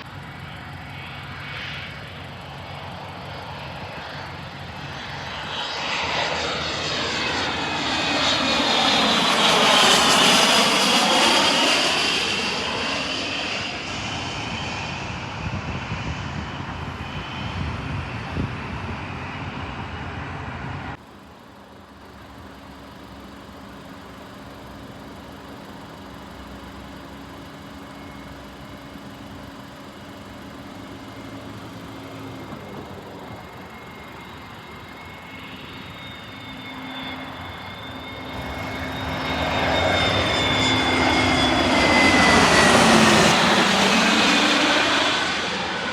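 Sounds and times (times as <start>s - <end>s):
airplane passing overhead: 0.0s - 45.9s
descending engine whine: 0.0s - 45.9s
steady aircraft engine hum: 0.0s - 45.9s.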